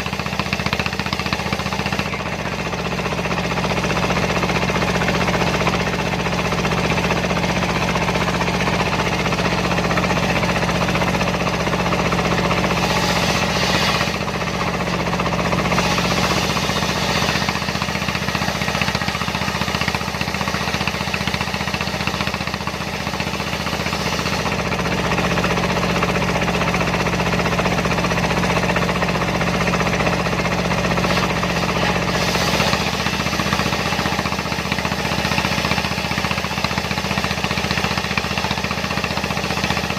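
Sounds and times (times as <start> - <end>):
circular sawmill: 0.0 - 39.9
diesel engine running: 0.0 - 39.9.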